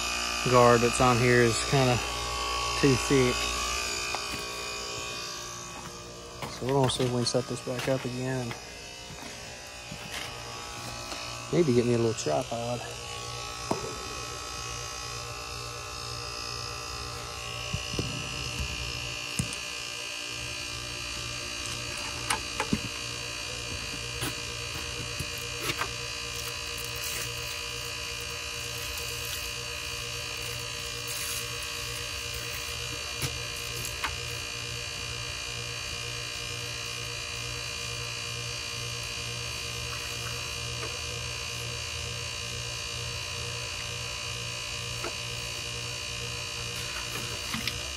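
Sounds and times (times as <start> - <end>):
heat pump buzzing hum: 0.0 - 47.9.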